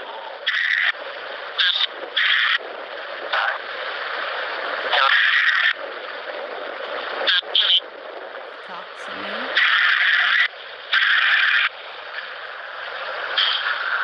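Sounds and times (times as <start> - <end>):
steady white noise hiss: 0.0 - 14.0.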